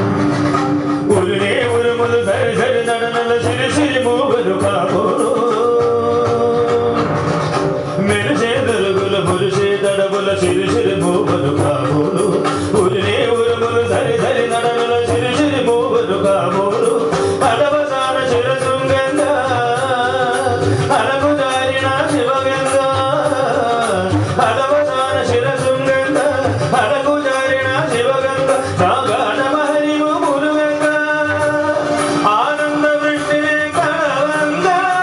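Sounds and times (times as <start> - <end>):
instrumental accompaniment: 0.0 - 35.0
man singing into microphone: 0.0 - 35.0
steady drum beat: 0.0 - 35.0.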